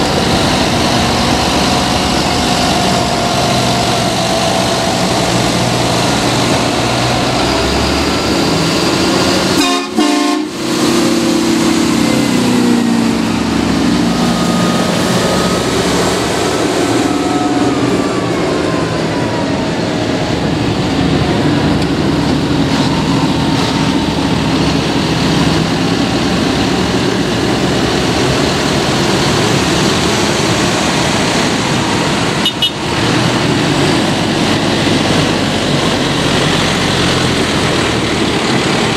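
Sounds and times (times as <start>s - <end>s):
tractors driving past: 0.0s - 38.9s.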